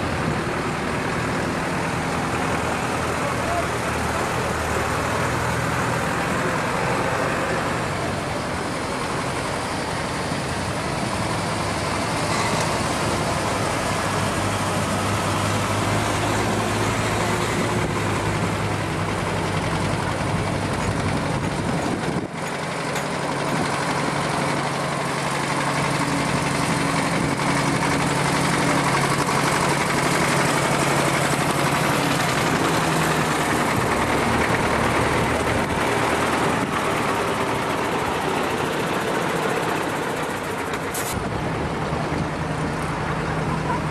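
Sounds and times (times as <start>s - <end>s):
truck engines droning past: 0.0s - 43.9s.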